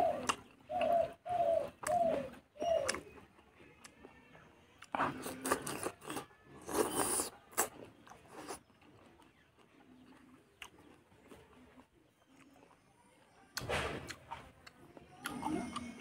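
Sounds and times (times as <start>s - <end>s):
wet chewing and crunching: 0.0s - 16.0s.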